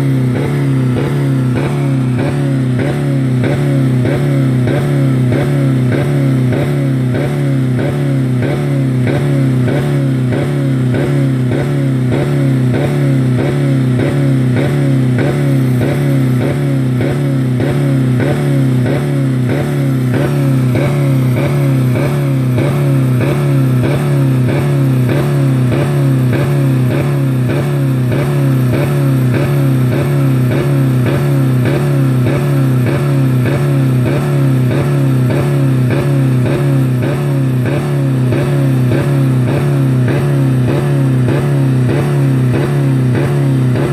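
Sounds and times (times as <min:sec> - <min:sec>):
car engine droning at high revs: 0:00.0 - 0:43.9.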